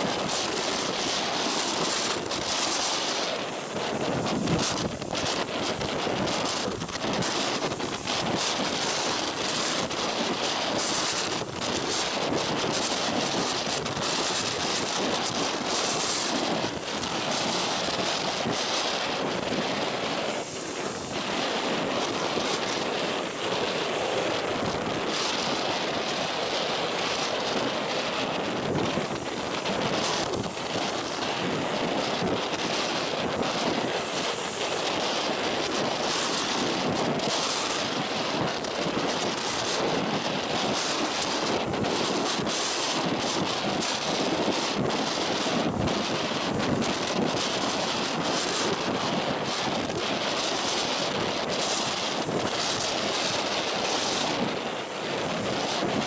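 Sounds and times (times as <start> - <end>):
heavy surf breaking: 0.0 - 56.0
wind buffeting microphone: 0.0 - 56.0.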